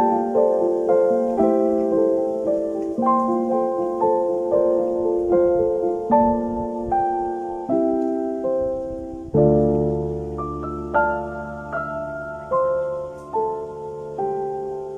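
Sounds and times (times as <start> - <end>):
soft piano chords: 0.0 - 14.9.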